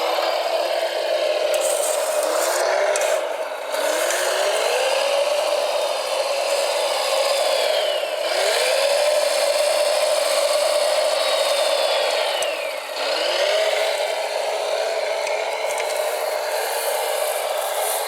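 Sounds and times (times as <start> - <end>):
electric motor and gearbox whine: 0.0 - 18.0.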